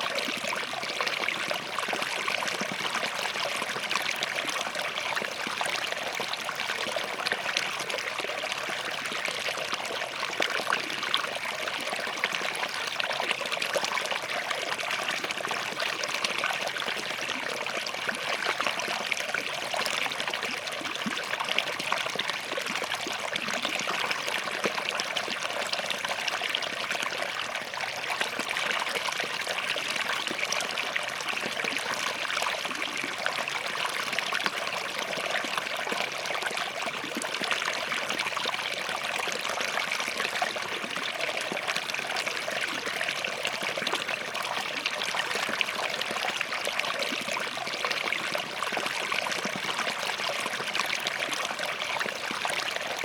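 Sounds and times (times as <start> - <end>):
stream trickling between rocks: 0.0 - 53.0.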